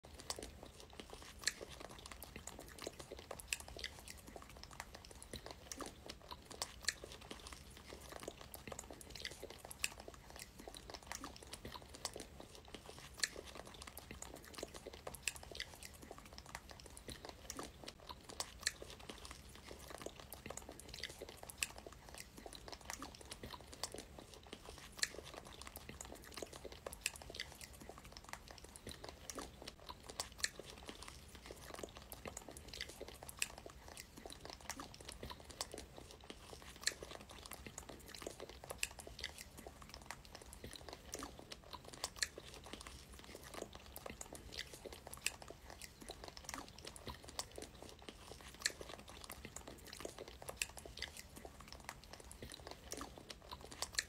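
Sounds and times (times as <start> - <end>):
chewing strawberries: 0.0 - 54.0.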